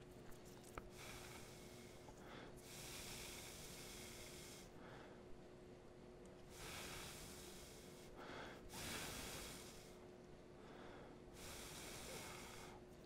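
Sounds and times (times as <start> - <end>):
faint steady hum: 0.0 - 13.0
person breathing: 0.9 - 5.3, 6.4 - 13.0.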